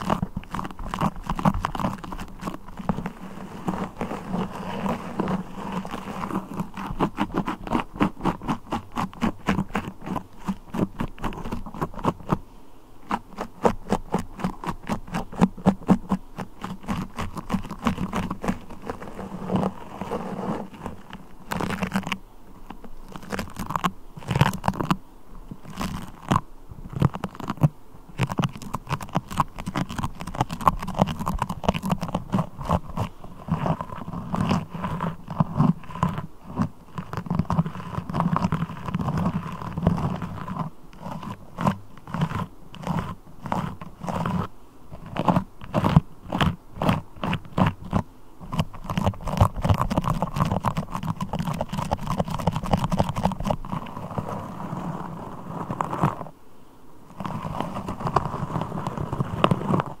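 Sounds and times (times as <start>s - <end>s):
sticky crackling and clicking: 0.0s - 12.4s, 13.0s - 25.0s, 25.6s - 56.3s.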